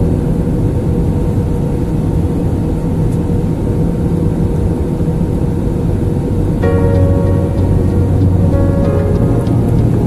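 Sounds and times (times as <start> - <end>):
jet engines from inside cabin: 0.0 - 10.0.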